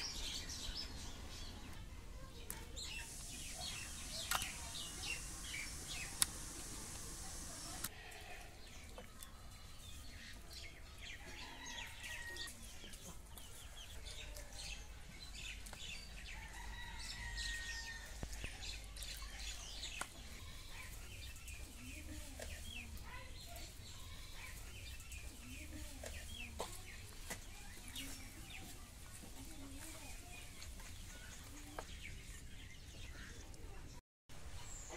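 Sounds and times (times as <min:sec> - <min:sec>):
small birds chirping: 0:00.0 - 0:07.9, 0:08.5 - 0:34.9.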